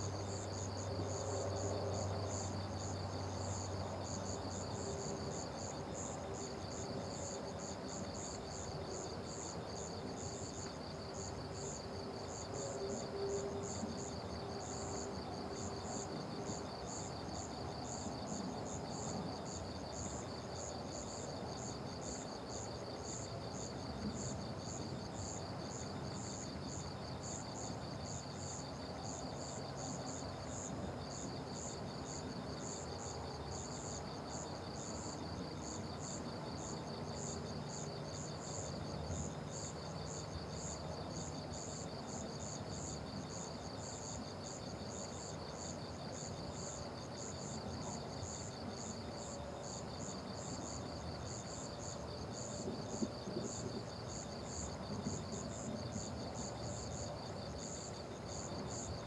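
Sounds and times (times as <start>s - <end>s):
crickets chirping: 0.0s - 59.0s
faint background hiss: 0.0s - 59.0s.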